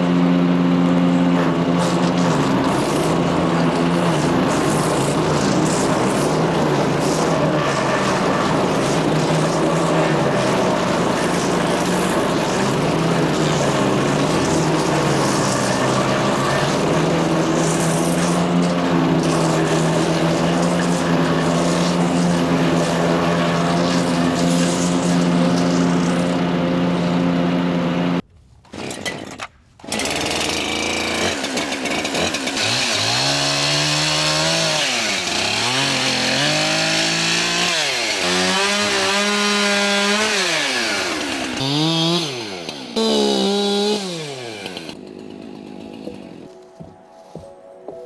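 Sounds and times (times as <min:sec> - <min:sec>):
wood chipper engine running: 0:00.0 - 0:28.2, 0:29.8 - 0:46.6.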